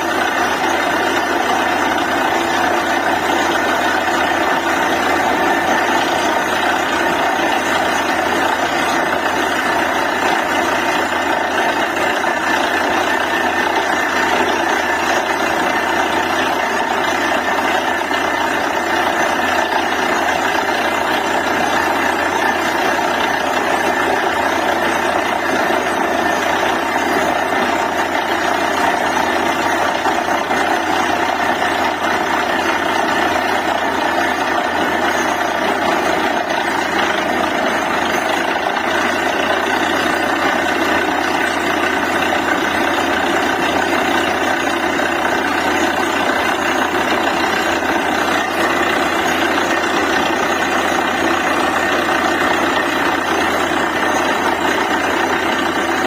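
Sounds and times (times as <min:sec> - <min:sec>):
drilling rig diesel engine running: 0:00.0 - 0:56.0.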